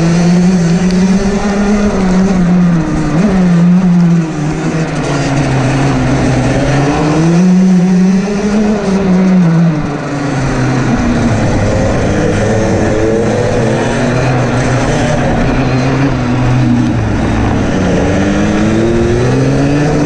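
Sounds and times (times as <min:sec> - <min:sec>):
kart engine revving: 0:00.0 - 0:20.0.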